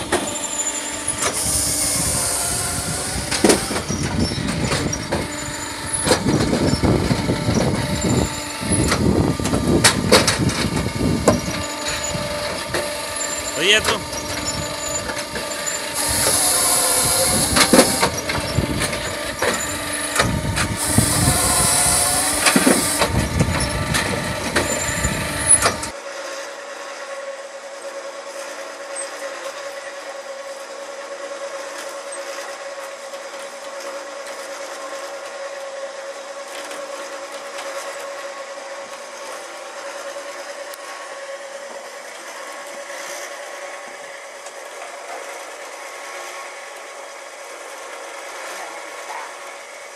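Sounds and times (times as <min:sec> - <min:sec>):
firewood processor bursts: 0:00.0 - 0:49.9
winch motor hum: 0:00.0 - 0:49.9.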